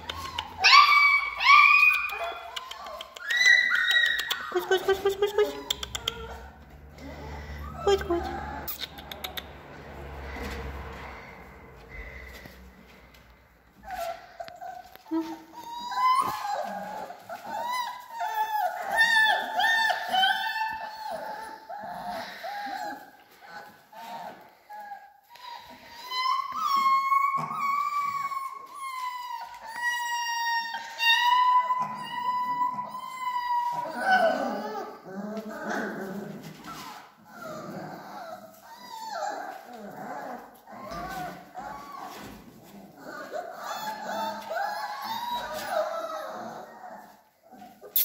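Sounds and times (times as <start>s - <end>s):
puppies whining: 0.0s - 48.0s.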